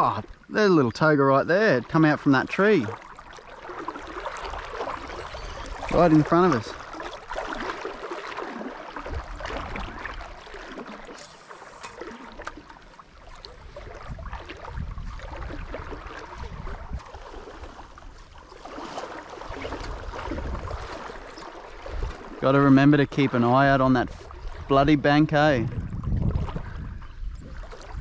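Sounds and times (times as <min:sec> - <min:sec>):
river water lapping around boat: 0:00.0 - 0:28.0.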